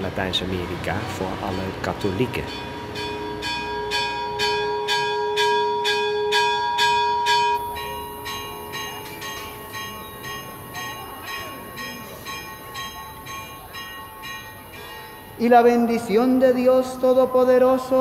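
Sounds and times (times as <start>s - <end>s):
church bell ringing: 1.5s - 18.0s.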